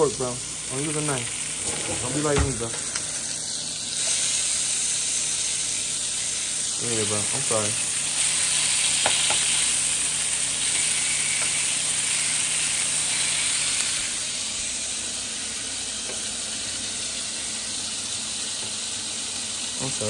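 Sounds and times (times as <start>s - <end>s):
food sizzling in frying pans: 0.0s - 20.0s.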